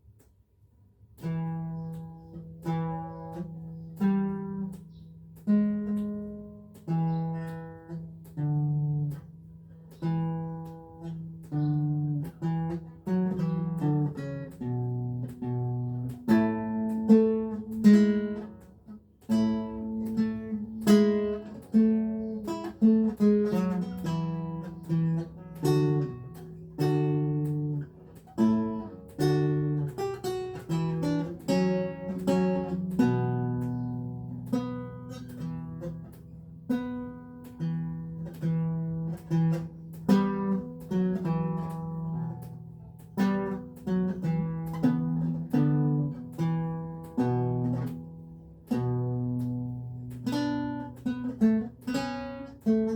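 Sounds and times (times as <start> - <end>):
solo lute playing slowly: 1.0 - 52.9.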